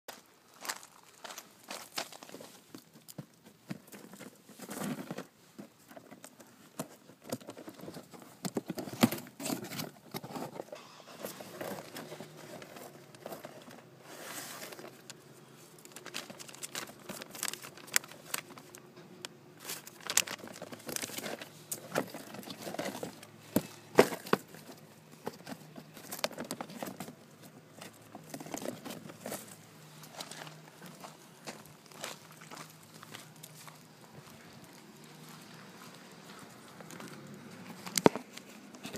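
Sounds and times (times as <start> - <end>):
packaging rustling and crinkling: 6.0 - 18.9, 19.6 - 38.9.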